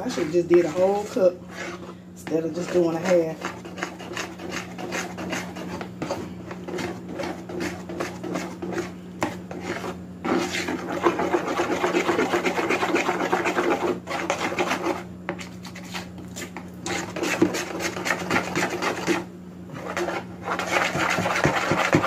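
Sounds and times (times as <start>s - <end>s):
spoon stirring batter in a bowl: 0.0s - 22.0s.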